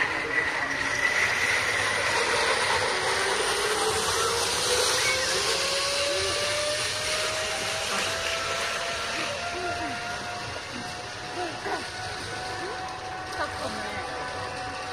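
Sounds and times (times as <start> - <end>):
zipline trolley whine on cable: 0.0 - 14.9.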